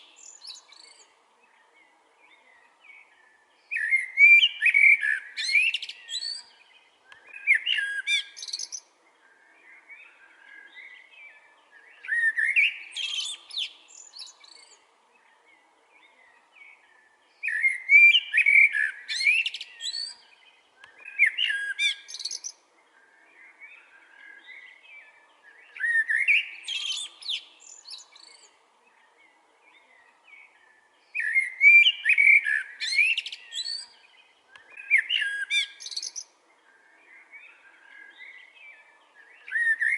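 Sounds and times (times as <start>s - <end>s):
blackbird singing: 0.0s - 39.9s
soft bird twittering: 0.0s - 39.9s.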